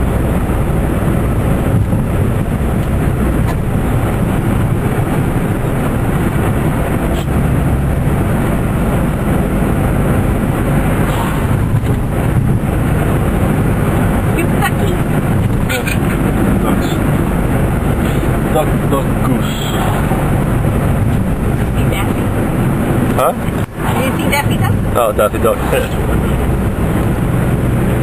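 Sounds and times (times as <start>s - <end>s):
car engine and road noise: 0.0s - 28.0s
tyres on wet road: 0.0s - 28.0s.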